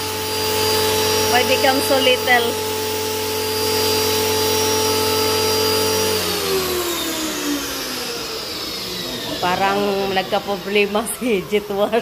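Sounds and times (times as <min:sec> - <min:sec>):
pressure washer motor whine: 0:00.0 - 0:12.0.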